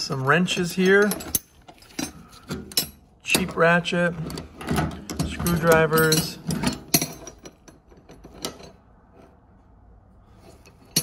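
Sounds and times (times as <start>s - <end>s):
metal hand tools clinking in toolbox: 0.0s - 8.8s.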